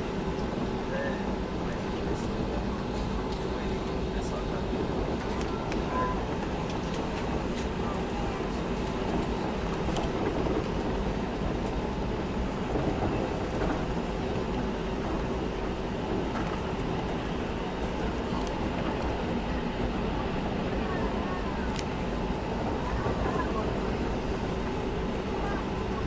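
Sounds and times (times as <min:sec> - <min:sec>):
airliner cabin noise: 0:00.0 - 0:26.0
faint constant hum: 0:00.0 - 0:26.0.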